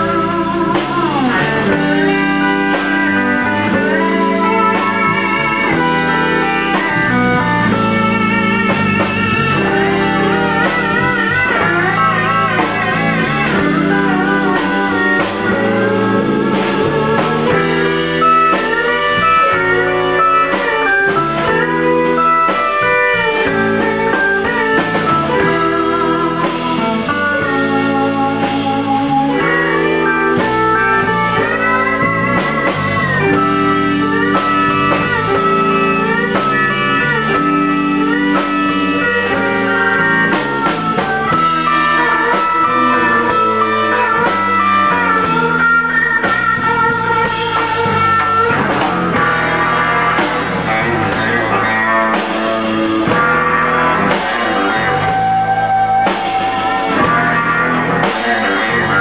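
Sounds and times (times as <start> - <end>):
bass: 0.0 - 59.0
drums: 0.0 - 59.0
electric guitar melody: 0.0 - 59.0
pedal steel guitar: 0.0 - 59.0.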